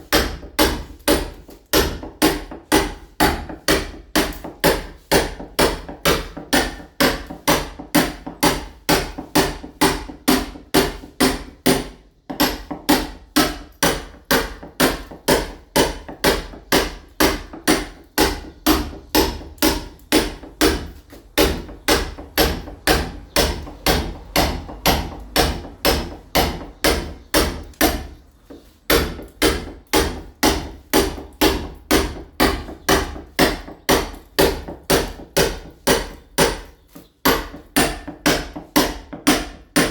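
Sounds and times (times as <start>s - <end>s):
sledgehammer striking chisel: 0.0s - 39.9s.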